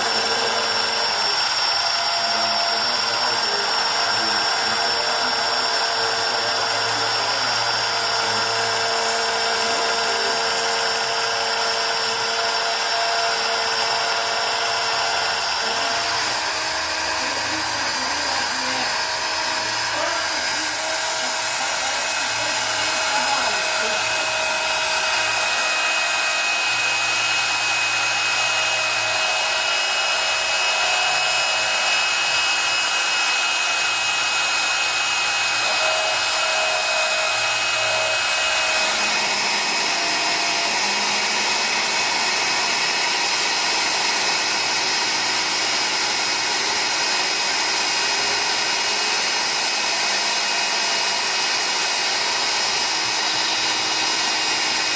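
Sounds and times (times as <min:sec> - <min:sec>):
engraving spindle whine: 0:00.0 - 0:54.9.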